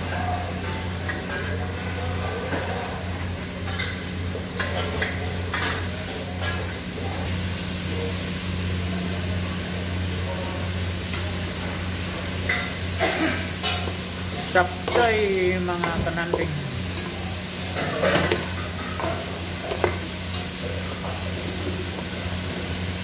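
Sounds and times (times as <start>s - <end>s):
meat sizzling in oil: 1.7s - 23.0s.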